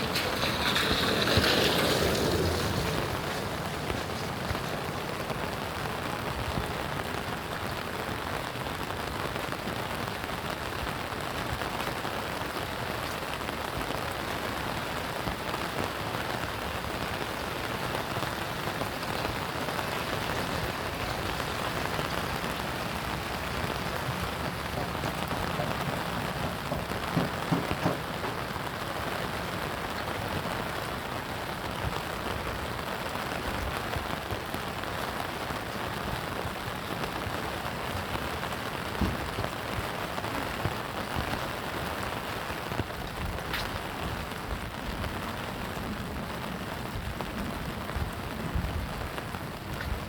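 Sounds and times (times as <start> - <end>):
steady rain patter: 0.0 - 50.0.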